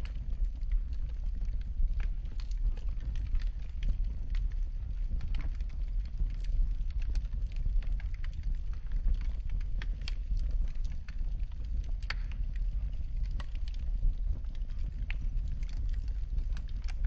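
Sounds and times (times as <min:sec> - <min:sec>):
low rumble of fire: 0:00.0 - 0:17.0
wood fire crackling and popping: 0:00.0 - 0:17.0.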